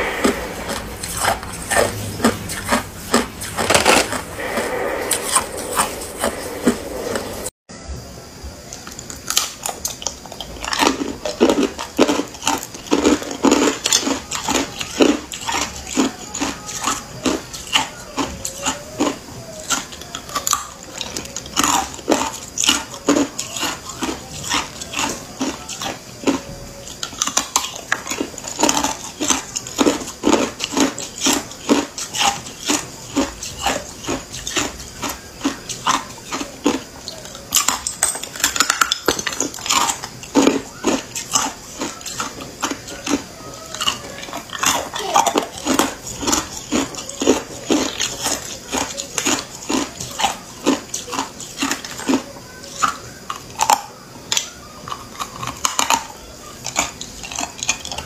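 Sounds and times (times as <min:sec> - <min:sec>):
ice cubes crunched between teeth: 0:08.9 - 0:58.0.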